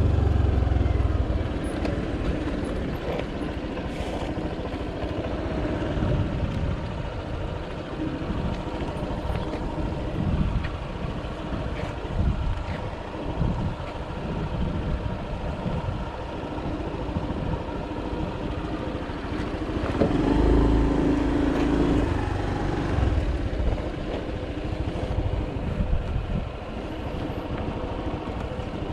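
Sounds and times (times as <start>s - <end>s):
scooter engine drone: 0.0s - 28.9s.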